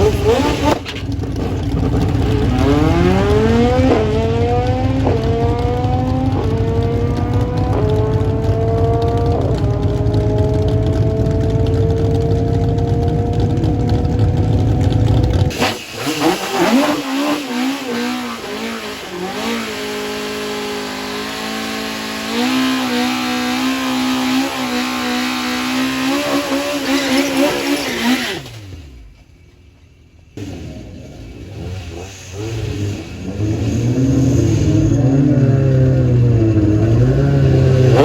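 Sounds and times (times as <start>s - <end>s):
race car engine at full throttle: 0.0s - 38.0s.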